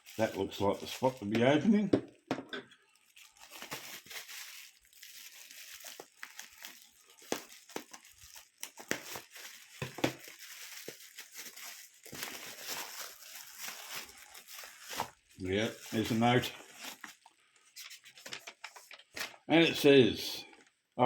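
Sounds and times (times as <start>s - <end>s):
packing material crackling and tearing: 0.0s - 1.6s, 2.8s - 19.3s.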